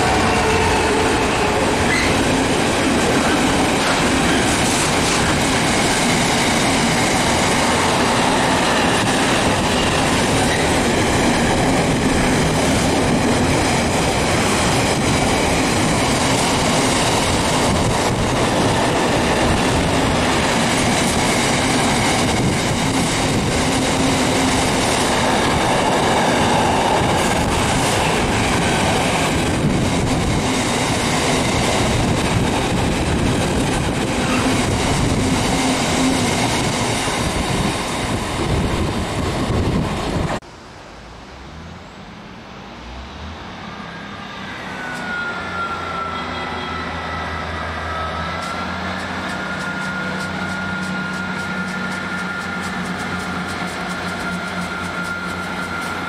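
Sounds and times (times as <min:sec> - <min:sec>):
train wheels rumbling on rails: 0:00.0 - 0:40.5, 0:41.2 - 0:56.0.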